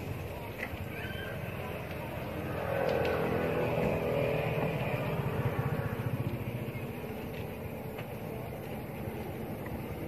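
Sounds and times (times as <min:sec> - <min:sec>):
vehicle engine pulsing rumble: 0:00.0 - 0:10.0.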